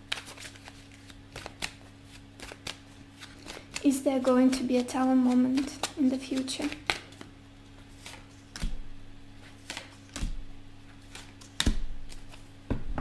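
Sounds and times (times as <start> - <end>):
cards being shuffled: 0.0 - 8.8, 9.4 - 12.6.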